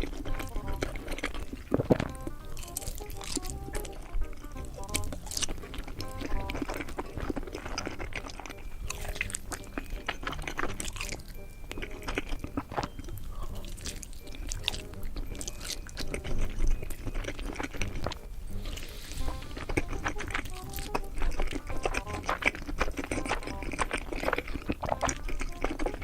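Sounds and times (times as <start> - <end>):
crunching and chewing food: 0.0 - 26.0.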